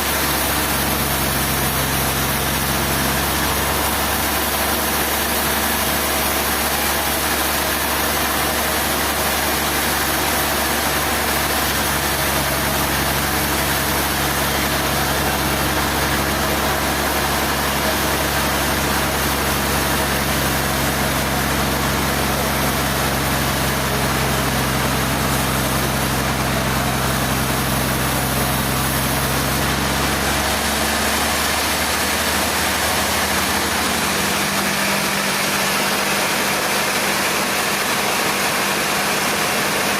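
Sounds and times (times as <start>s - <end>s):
low motor hum: 0.0s - 39.9s.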